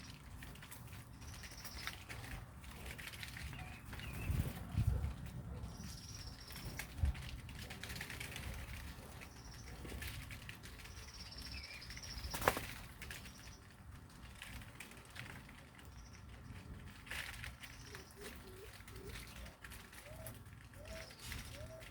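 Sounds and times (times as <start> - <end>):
birds peeping: 0.0 - 21.9
small clicks and rustles: 0.0 - 21.9
wings fluttering: 0.0 - 21.9.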